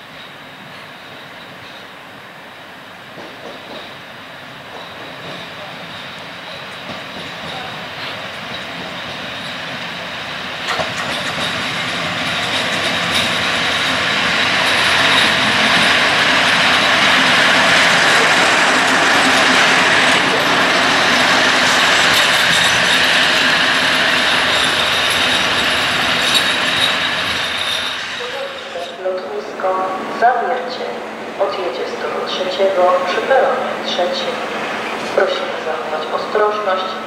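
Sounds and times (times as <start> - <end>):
locomotive wheels on rails: 3.1 - 37.0.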